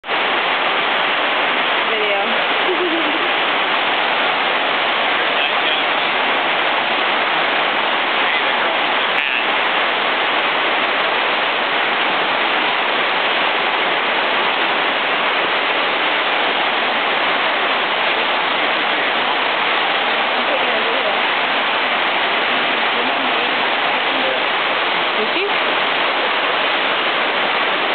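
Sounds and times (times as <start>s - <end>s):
heavy rain on a roof: 0.0s - 27.9s.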